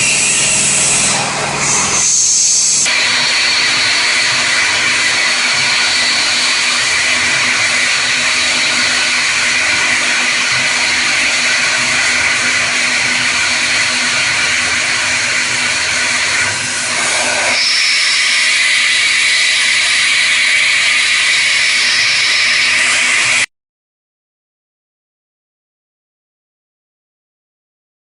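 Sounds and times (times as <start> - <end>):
cnc machine whining: 0.0 - 23.5
high whine: 0.0 - 23.5.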